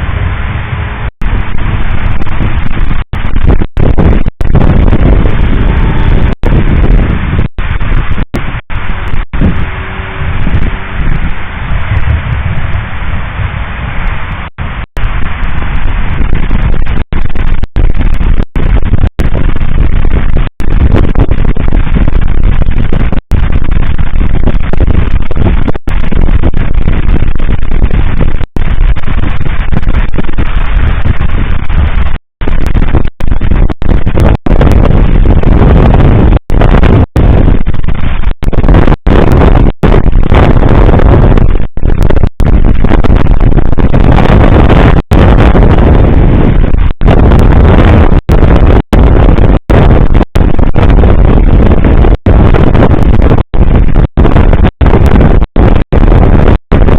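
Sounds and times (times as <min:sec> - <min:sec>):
distorted fireworks bangs: 0:00.0 - 0:56.9.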